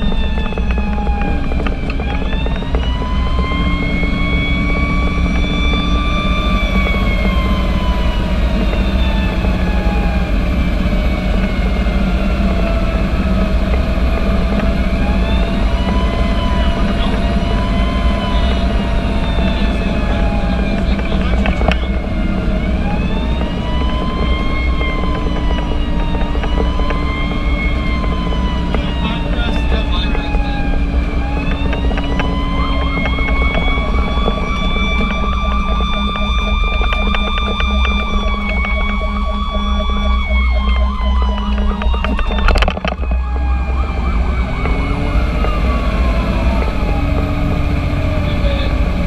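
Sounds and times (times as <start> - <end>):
engine and road rumble: 0.0 - 49.0
fire engine siren wailing: 0.0 - 49.0.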